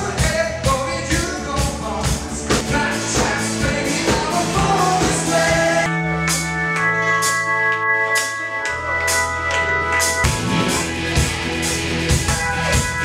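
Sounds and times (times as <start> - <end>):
upbeat band music with singing: 0.0 - 13.0.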